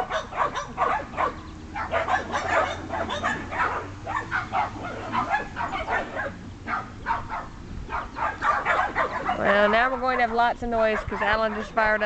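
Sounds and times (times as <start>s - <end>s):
puppies yipping and barking: 0.0s - 12.0s.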